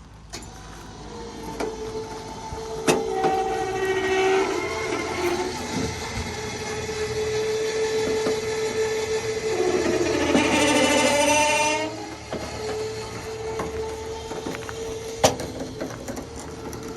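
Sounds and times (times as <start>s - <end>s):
electric motor whine: 0.3s - 16.9s.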